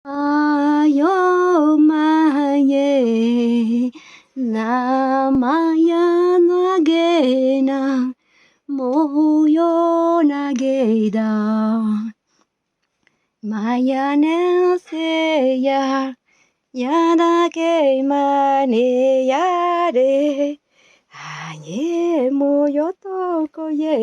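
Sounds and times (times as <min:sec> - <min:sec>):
woman singing unaccompanied: 0:00.0 - 0:12.2, 0:13.4 - 0:16.2, 0:16.8 - 0:24.0.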